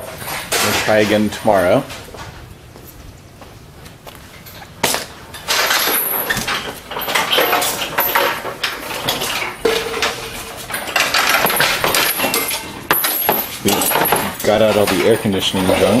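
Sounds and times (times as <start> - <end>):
metal clanking and scraping: 0.0 - 2.3, 4.3 - 16.0.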